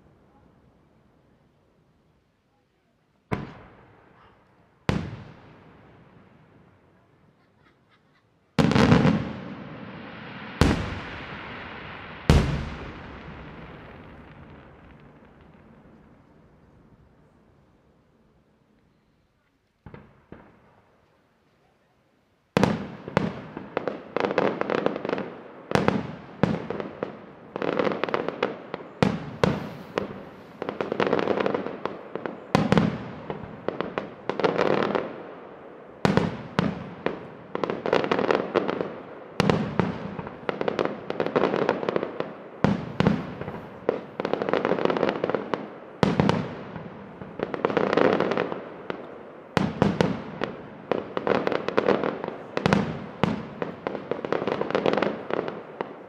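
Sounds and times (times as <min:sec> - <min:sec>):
fireworks crackling: 0:02.1 - 0:56.0.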